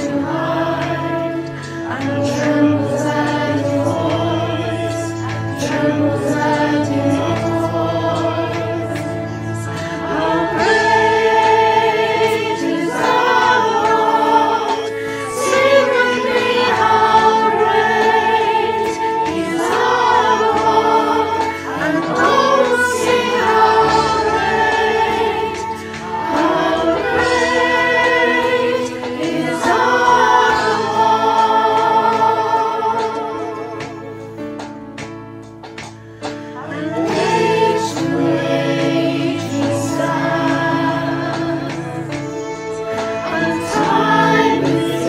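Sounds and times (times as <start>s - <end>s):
group singing worship song: 0.0s - 34.8s, 35.4s - 45.0s.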